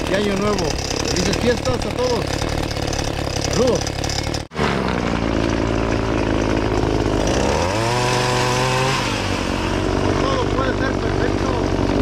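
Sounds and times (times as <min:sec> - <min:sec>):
pole saw engine revving: 0:00.0 - 0:12.0.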